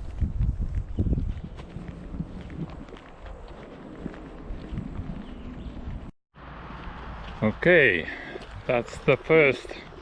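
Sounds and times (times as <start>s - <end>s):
footsteps walking: 0.0s - 10.0s.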